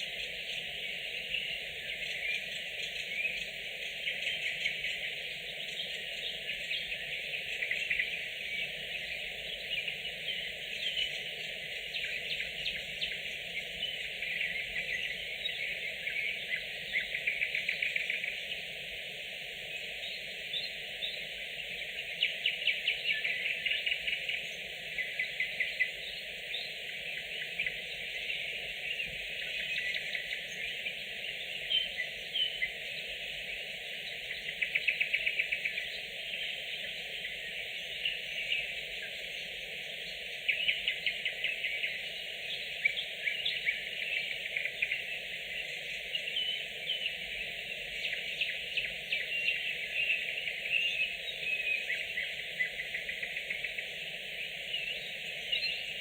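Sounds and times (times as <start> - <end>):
nightingales singing: 0.0 - 56.0.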